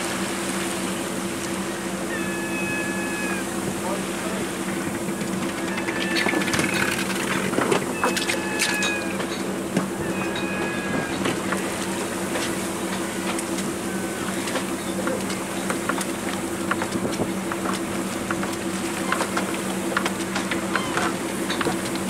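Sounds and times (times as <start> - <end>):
boat engine humming: 0.0 - 22.0
water splashes: 0.0 - 22.0
water wash: 0.0 - 22.0.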